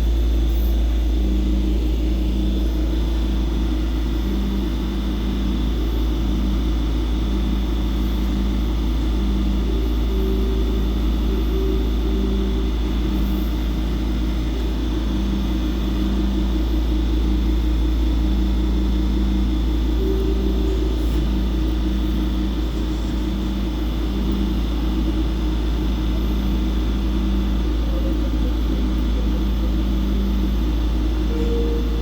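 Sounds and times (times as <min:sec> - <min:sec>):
electric train rumble: 0:00.0 - 0:32.0
electrical hum: 0:00.0 - 0:32.0
faint high whine: 0:00.0 - 0:32.0.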